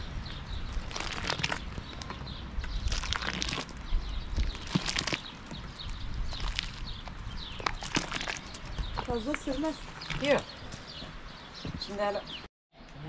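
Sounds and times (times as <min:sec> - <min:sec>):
crackles and knocks: 0:00.3 - 0:11.9.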